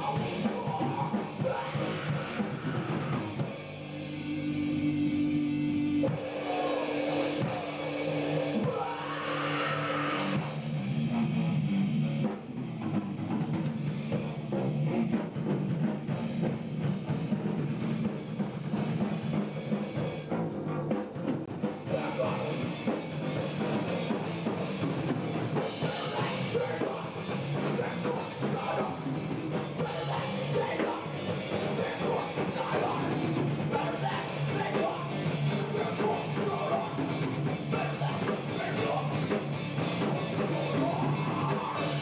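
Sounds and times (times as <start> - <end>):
distorted guitars: 0.0 - 42.0
heavy rock music: 0.0 - 42.0.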